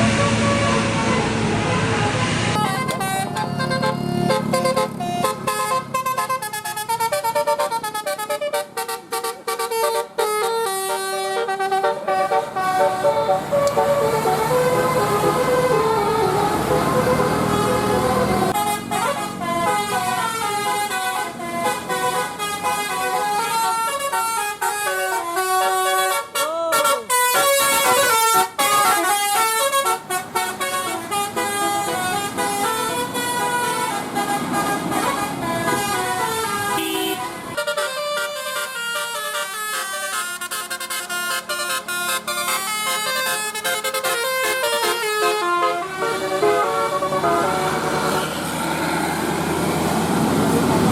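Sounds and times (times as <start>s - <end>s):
bus musical air horn melody: 0.0s - 50.7s.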